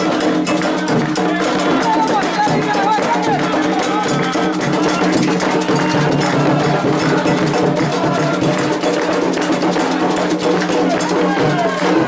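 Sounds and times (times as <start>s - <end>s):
hand drums: 0.0s - 12.0s
struck bell: 0.0s - 12.0s.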